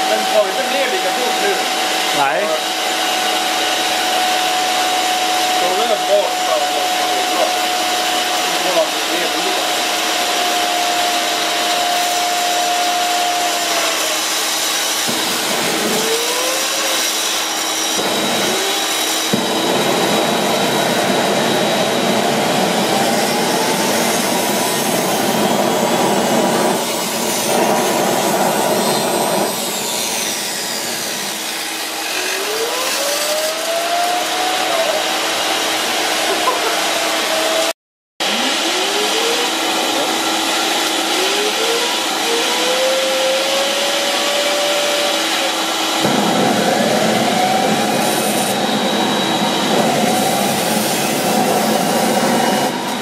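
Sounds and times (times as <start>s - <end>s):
jet engine rushing roar: 0.0s - 53.0s
jet engine whine: 0.0s - 53.0s.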